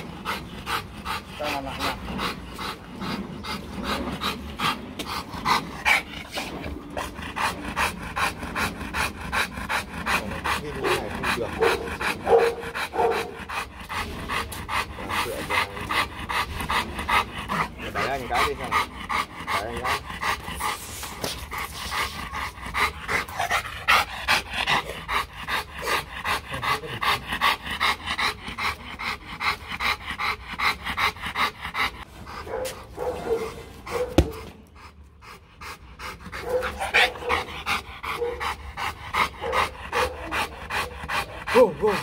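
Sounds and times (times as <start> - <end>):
dog panting hard: 0.0 - 42.0.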